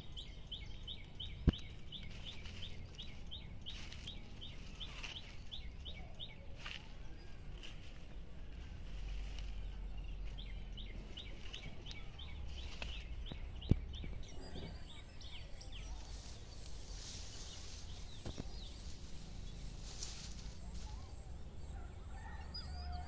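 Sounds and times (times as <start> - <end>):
low rumble on microphone: 0.0 - 23.0.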